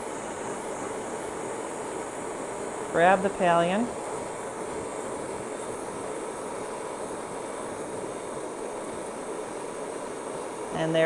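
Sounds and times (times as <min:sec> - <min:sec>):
soldering torch flame hissing: 0:00.0 - 0:11.0.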